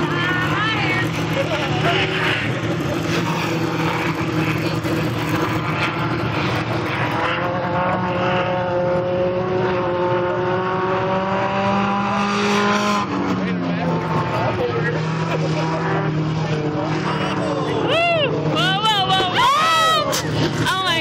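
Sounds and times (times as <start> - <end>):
race car engines running: 0.0 - 21.0.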